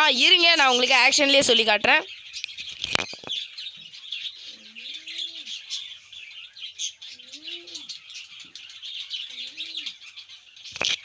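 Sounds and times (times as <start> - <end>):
small birds chirping: 0.0 - 11.0
low rising and falling bird calls: 2.0 - 11.0.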